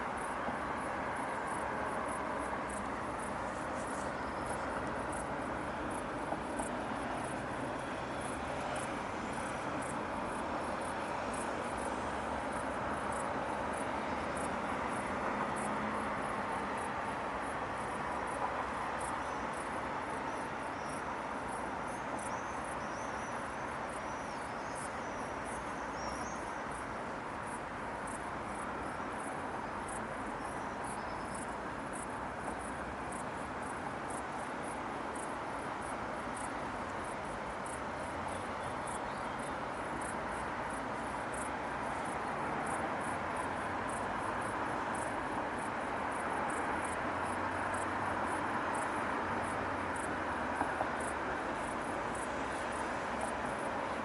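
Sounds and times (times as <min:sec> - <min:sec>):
distant city traffic hum: 0:00.0 - 0:54.0
insects chirping: 0:00.1 - 0:54.0.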